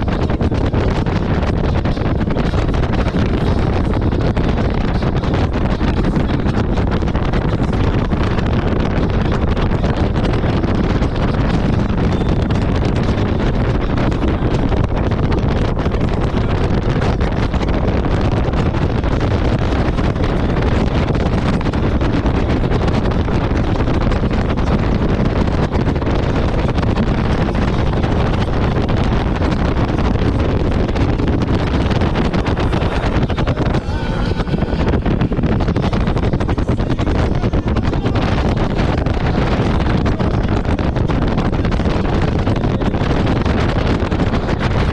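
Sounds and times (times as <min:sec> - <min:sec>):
jet ski engine drone: 0:00.0 - 0:44.9
wind buffeting microphone: 0:00.0 - 0:44.9.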